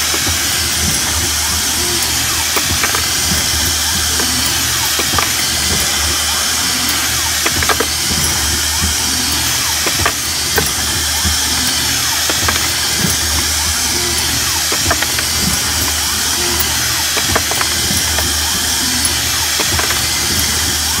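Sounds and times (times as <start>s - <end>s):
machine humming and hissing: 0.0s - 21.0s.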